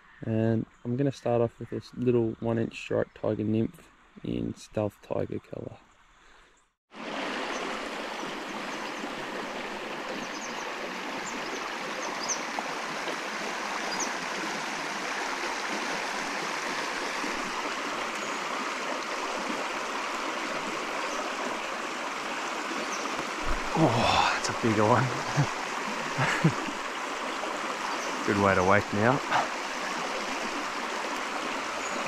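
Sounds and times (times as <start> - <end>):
creek flowing: 1.6 - 32.0.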